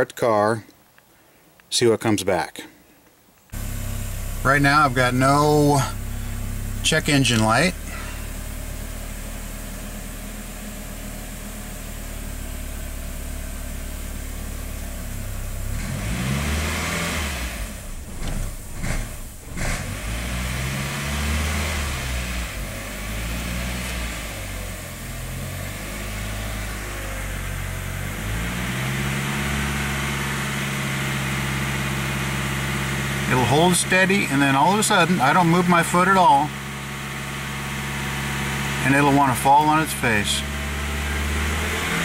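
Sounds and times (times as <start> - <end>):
car engine idling and revving: 3.5 - 42.0.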